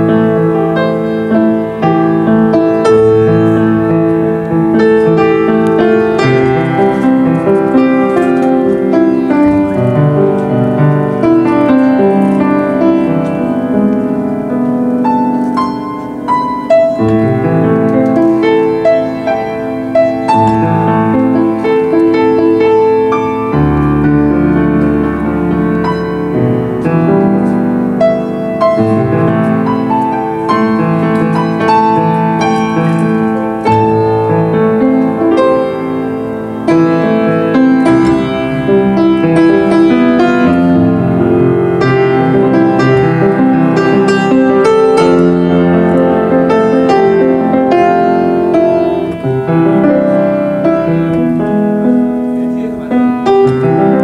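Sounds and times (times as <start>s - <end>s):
solo grand piano piece: 0.0s - 54.0s.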